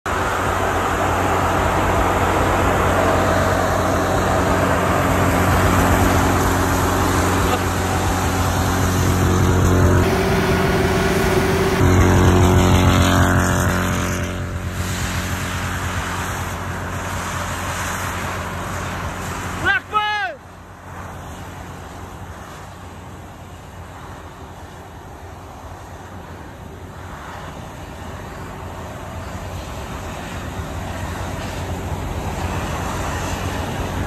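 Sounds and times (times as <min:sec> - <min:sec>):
off-road engines running hard: 0:00.1 - 0:34.0.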